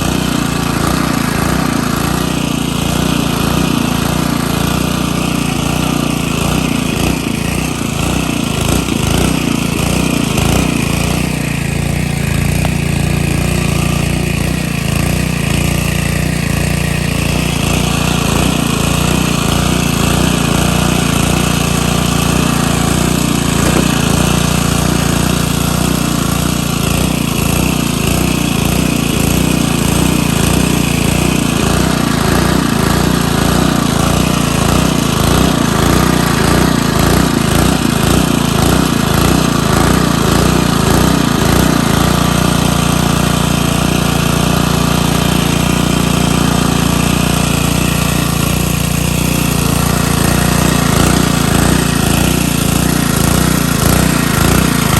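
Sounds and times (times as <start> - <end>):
small gasoline engine running: 0.0 - 54.9.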